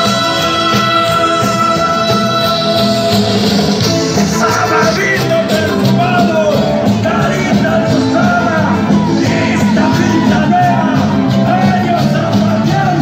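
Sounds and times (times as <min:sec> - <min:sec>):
folk dance music: 0:00.0 - 0:13.0.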